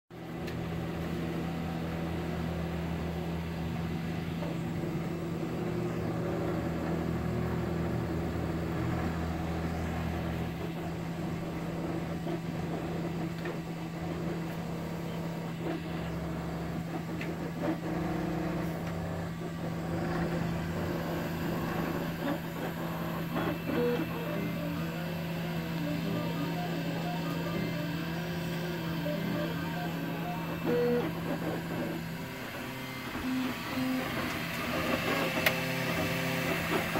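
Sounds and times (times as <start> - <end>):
fan hum: 0.2 - 36.9
stepper motors whirring: 0.3 - 36.9.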